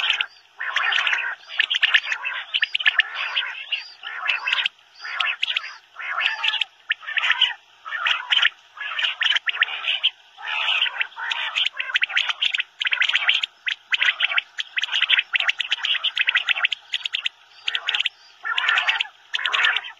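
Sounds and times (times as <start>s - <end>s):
quail calling: 0.0s - 19.9s.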